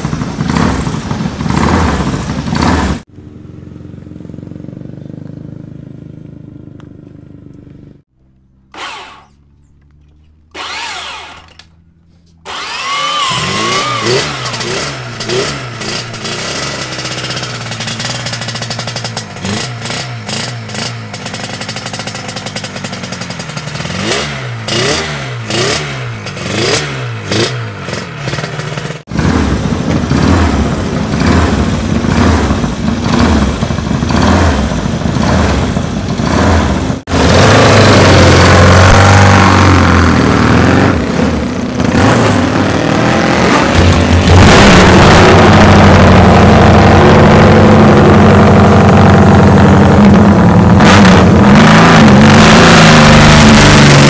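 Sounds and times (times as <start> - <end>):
deeper racing motorcycle engine: 0.0 - 54.0
motorcycle engine throttle blips: 0.0 - 54.0.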